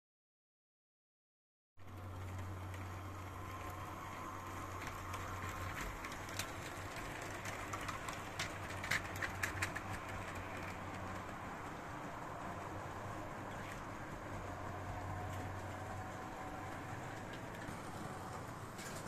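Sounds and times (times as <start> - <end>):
electric hum of model train: 1.8 - 19.0
wheels clattering over rail joints: 1.8 - 19.0.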